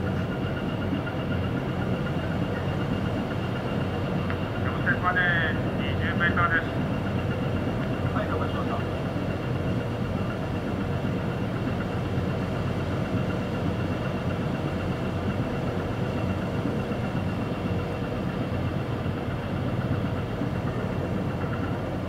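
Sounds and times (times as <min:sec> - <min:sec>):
ship diesel engine rumbling: 0:00.0 - 0:22.0.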